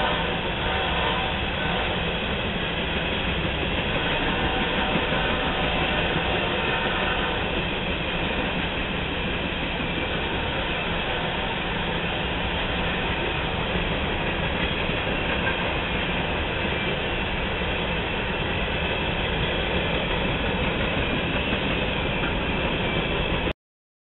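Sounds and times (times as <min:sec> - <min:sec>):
freight train cars rolling: 0:00.0 - 0:23.5.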